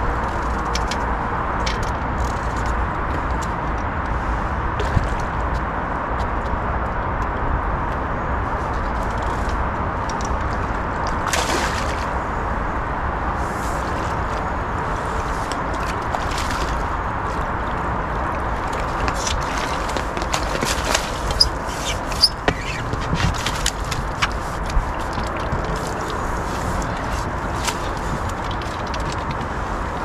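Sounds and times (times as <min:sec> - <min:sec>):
rushing background noise: 0:00.0 - 0:30.0.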